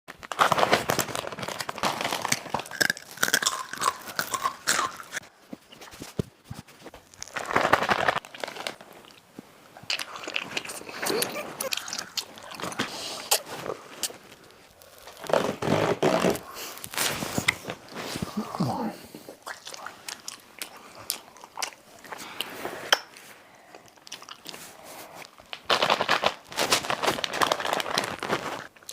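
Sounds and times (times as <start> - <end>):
person chewing crunchy food: 0.9 - 6.1, 7.0 - 17.9, 19.4 - 23.2, 23.8 - 28.9.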